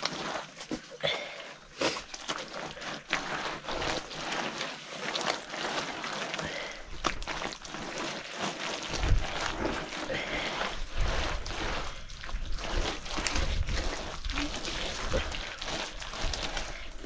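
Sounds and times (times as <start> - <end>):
wet mud sloshing and rubbing: 0.0 - 17.0.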